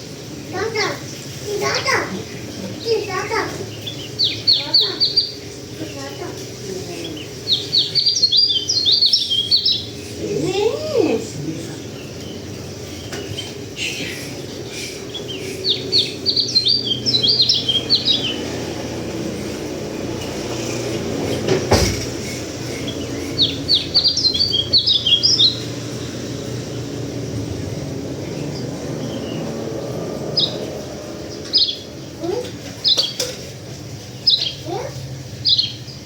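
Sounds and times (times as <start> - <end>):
bird chirping: 0.0 - 36.0.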